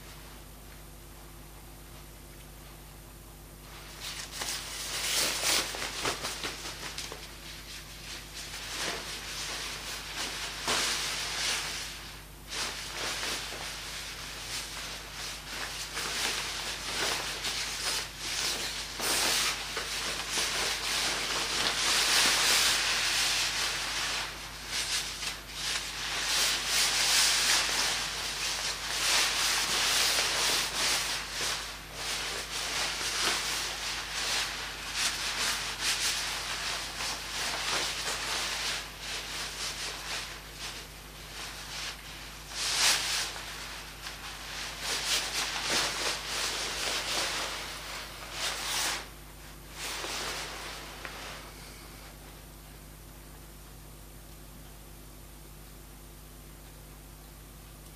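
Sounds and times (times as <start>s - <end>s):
fire hissing and crackling: 3.6s - 51.6s.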